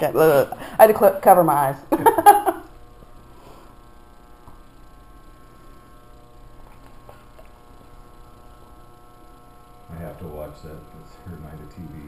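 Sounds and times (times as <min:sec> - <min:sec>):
faint electric hum: 0:00.0 - 0:12.0.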